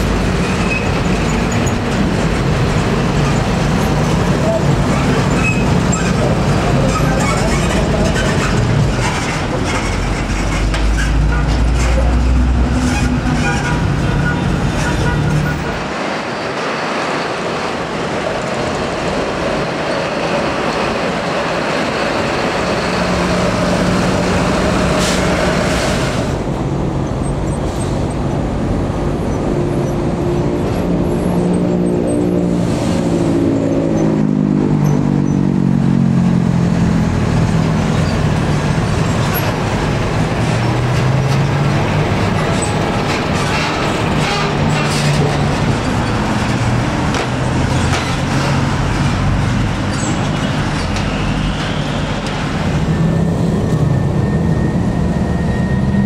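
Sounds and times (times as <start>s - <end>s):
diesel truck engines: 0.0s - 56.0s.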